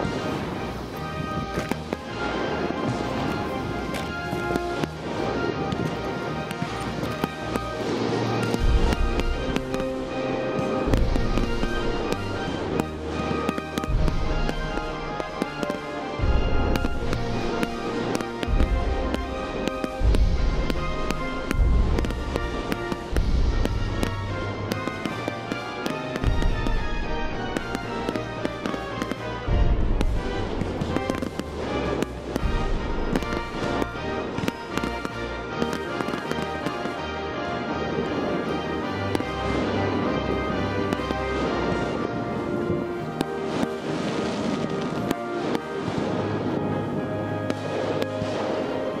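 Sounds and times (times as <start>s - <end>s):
fireworks bangs and crackles: 0.0s - 49.0s
music playing: 0.0s - 49.0s.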